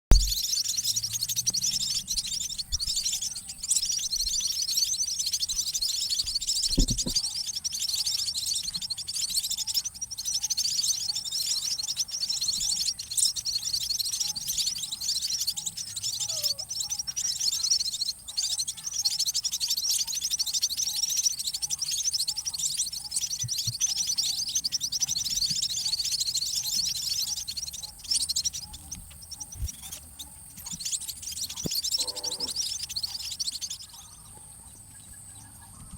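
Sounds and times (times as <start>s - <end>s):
chicks begging chatter: 0.1s - 35.9s.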